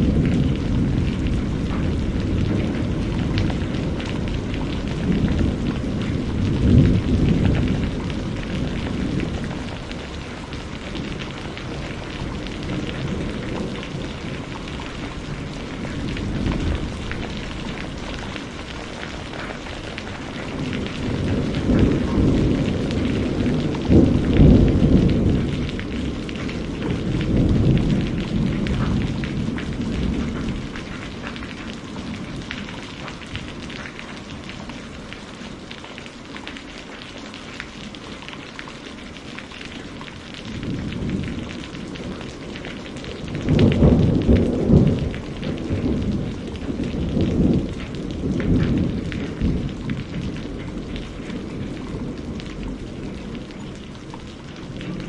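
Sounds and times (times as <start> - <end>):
thunder rumbling: 0.0 - 36.0, 39.0 - 55.0
steady rain: 0.0 - 55.0.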